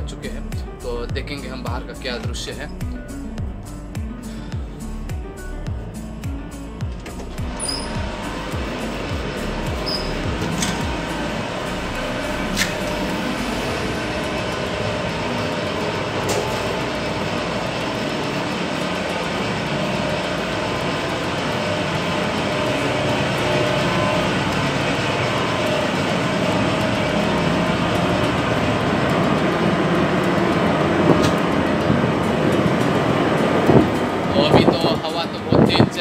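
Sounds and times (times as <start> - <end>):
ship engine drone: 0.0 - 36.0.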